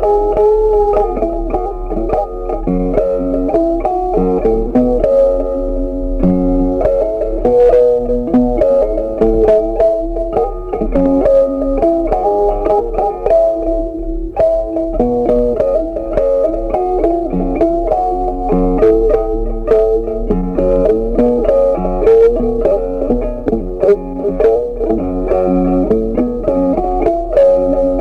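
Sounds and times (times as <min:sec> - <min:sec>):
plucked guitar melody: 0:00.0 - 0:28.0.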